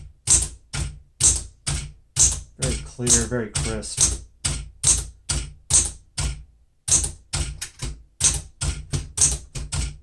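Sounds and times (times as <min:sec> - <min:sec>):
typewriter keystrokes: 0:00.2 - 0:10.0.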